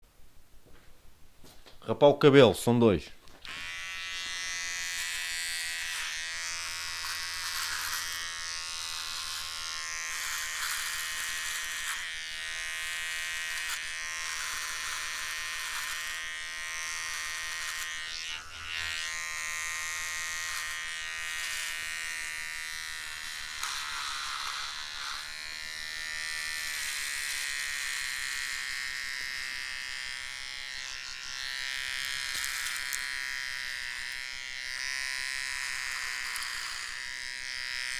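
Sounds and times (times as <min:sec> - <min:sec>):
electric hair trimmer buzzing: 0:03.3 - 0:37.9.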